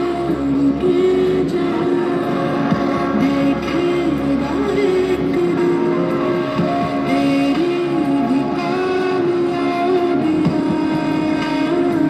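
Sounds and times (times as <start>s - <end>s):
dance music with gliding melody: 0.0s - 12.0s.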